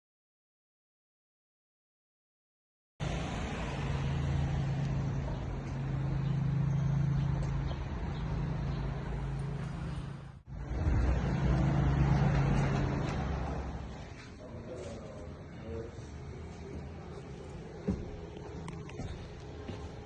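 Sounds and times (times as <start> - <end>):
road noise: 3.0 - 20.0
vehicle engine hum: 3.0 - 20.0.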